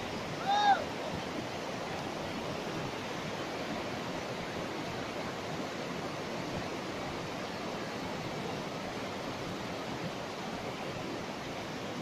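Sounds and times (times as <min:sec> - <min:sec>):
river rapids rushing over rocks: 0:00.0 - 0:12.0.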